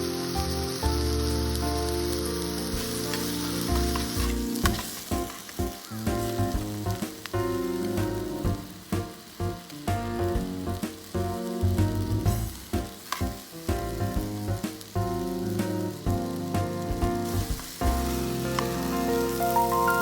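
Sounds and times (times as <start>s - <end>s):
background music: 0.0s - 20.0s
food sizzling in a pan: 0.0s - 20.0s
stirring in a pan: 1.5s - 20.0s.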